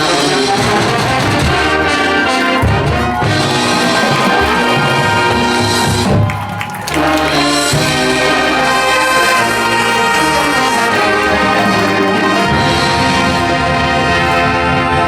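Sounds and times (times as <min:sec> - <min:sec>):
marching band brass playing: 0:00.0 - 0:15.0.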